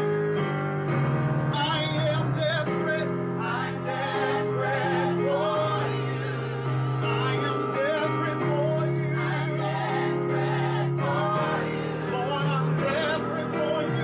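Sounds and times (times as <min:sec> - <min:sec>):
held keyboard chords: 0:00.0 - 0:14.0
vocal group singing in harmony: 0:02.7 - 0:14.0.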